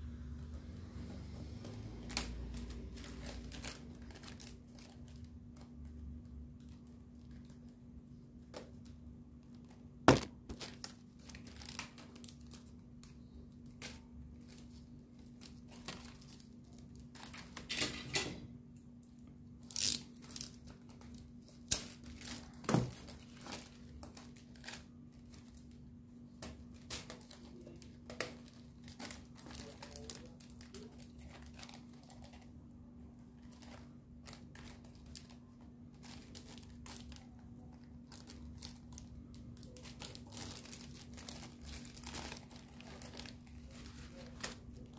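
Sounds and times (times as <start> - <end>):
plastic wrapping crinkling: 1.6 - 17.7, 19.1 - 44.9.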